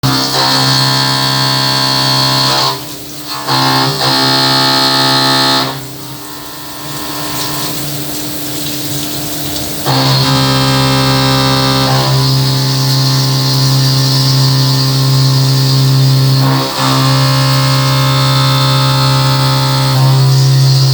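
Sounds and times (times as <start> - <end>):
milling machine whine: 0.0 - 20.9.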